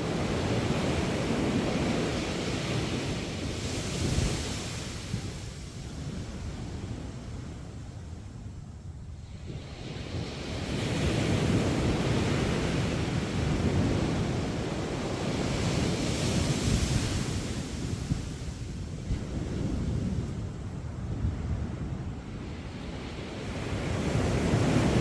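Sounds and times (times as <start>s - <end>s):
waves washing up a beach: 0.0s - 25.0s.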